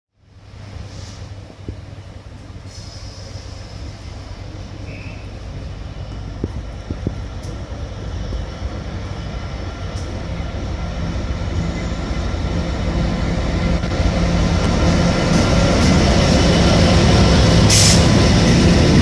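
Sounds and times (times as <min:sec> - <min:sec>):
diesel locomotive engine running: 0:00.3 - 0:19.0.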